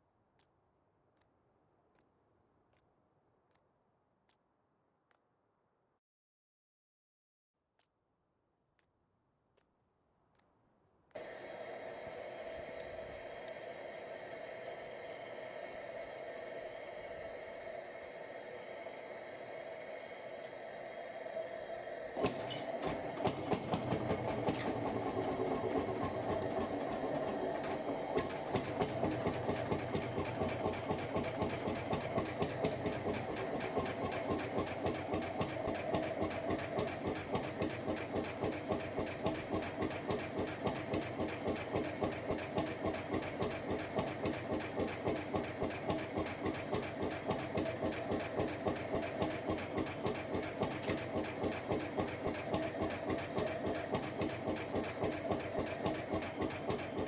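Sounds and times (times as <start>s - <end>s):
single-cylinder engine starting and running: 11.2s - 57.0s.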